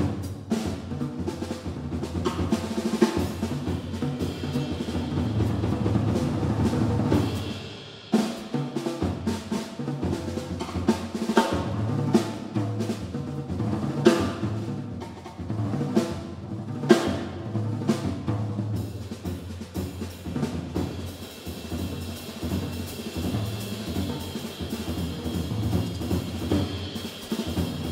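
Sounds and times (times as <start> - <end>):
jazz drum kit played with sticks: 0.0 - 27.9.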